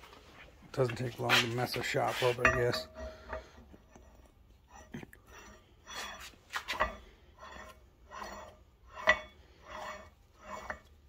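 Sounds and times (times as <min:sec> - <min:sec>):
metal nut scraping on threads: 0:01.4 - 0:11.0.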